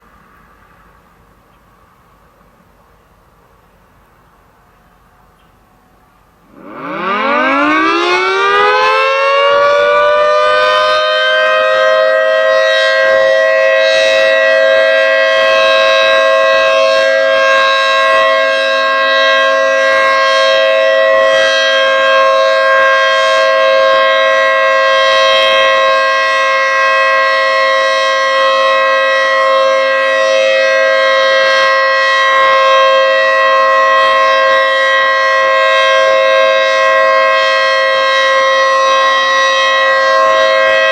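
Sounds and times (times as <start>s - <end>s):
tornado siren: 6.4s - 40.9s.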